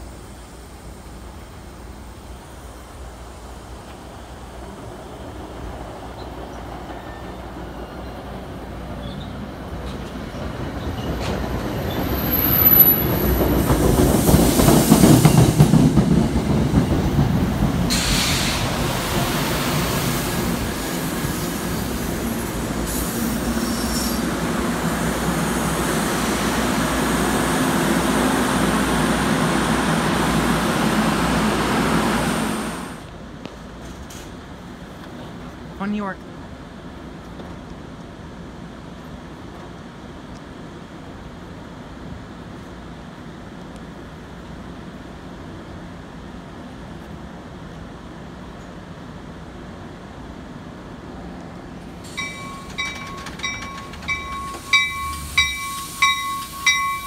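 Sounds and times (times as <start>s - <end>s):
train rolling past: 0.0s - 57.0s.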